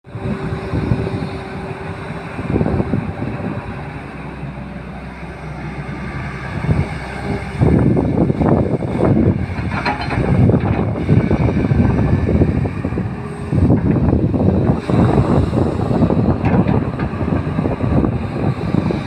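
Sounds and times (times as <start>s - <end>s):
excavator diesel engine rumbling: 0.1s - 19.0s.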